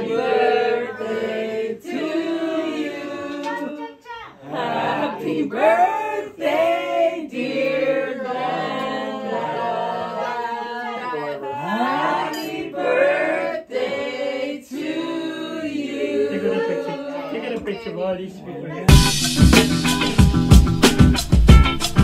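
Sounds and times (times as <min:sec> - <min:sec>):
group singing in chorus: 0:00.0 - 0:17.6.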